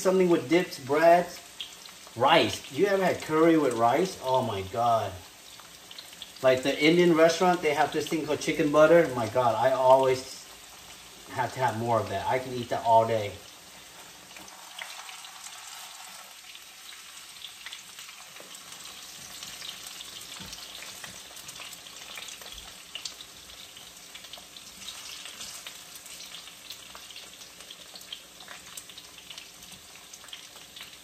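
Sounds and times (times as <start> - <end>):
potatoes sizzling in oil: 0.0 - 31.0.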